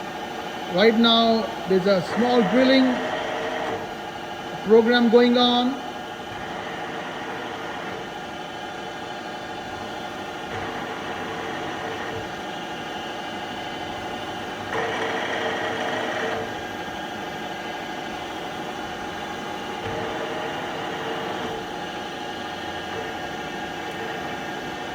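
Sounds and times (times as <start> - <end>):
milling machine spindle hum: 0.0 - 24.9.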